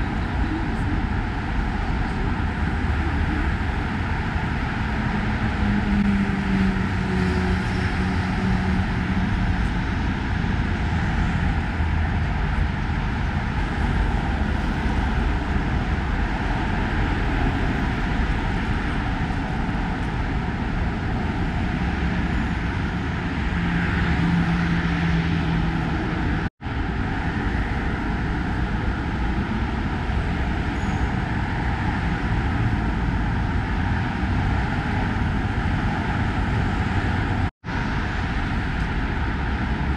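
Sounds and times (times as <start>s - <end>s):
passing vehicles engine hum: 0.0s - 39.9s
road traffic roar: 0.0s - 39.9s.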